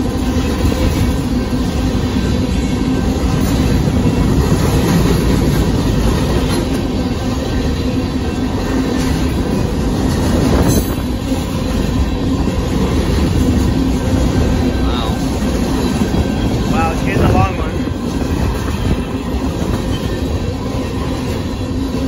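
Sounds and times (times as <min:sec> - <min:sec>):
freight cars rumbling on rails: 0:00.0 - 0:22.0.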